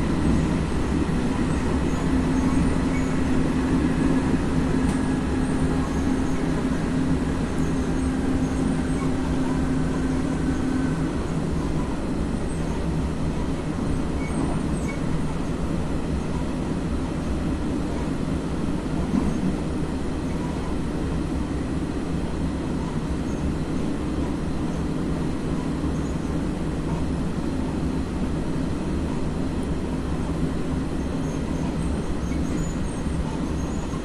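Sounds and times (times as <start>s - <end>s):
wheels rumbling on rails: 0.0s - 34.0s.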